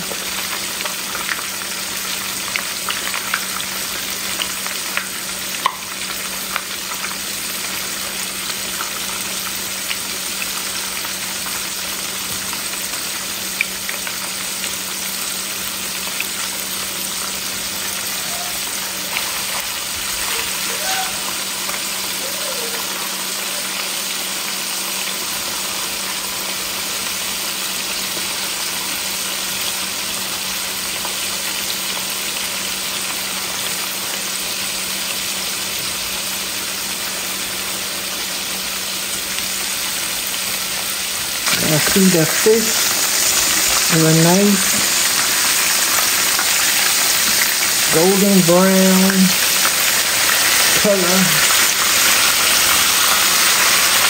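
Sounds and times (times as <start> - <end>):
shrimp sizzling in hot oil: 0.0 - 54.0.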